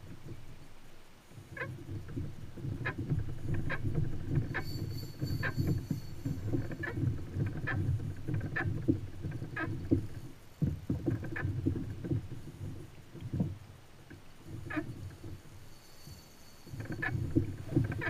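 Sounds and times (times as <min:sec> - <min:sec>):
water slapping kayak hull: 0:00.0 - 0:15.7, 0:16.8 - 0:18.0.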